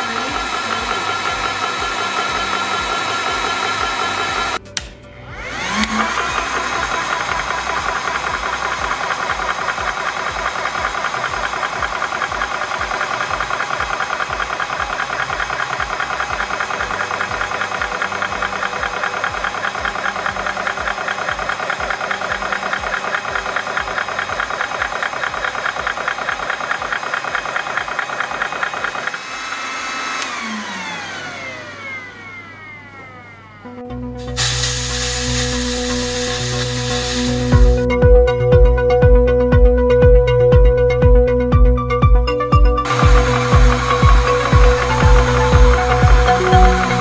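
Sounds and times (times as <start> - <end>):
air compressor pumping: 0.0 - 32.2, 34.2 - 37.8, 42.8 - 47.0
motor winding down: 0.0 - 38.0, 42.8 - 47.0.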